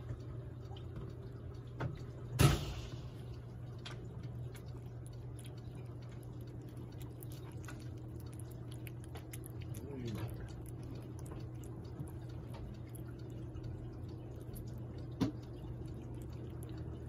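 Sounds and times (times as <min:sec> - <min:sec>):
low hum: 0:00.0 - 0:17.0
cat licking: 0:03.1 - 0:17.0.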